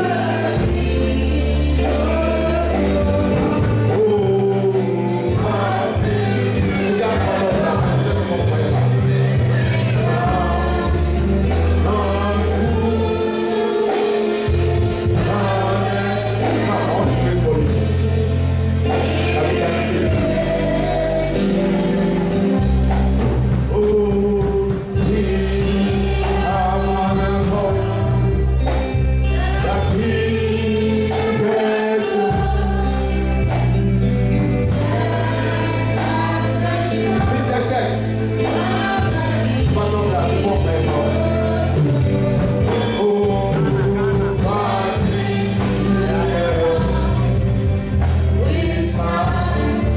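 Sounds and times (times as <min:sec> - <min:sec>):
gospel choir singing with band: 0:00.0 - 0:49.9.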